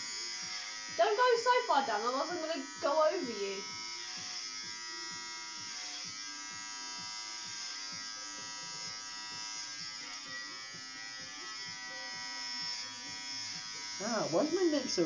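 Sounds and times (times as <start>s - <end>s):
electric hair clippers buzzing: 0.0s - 15.0s.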